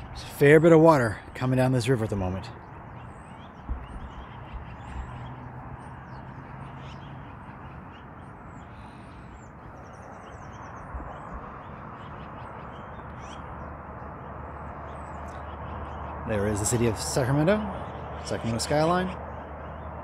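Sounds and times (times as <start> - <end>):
birds chirping: 0.0 - 20.0
outdoor background noise: 0.0 - 20.0
bird trill: 2.5 - 19.9.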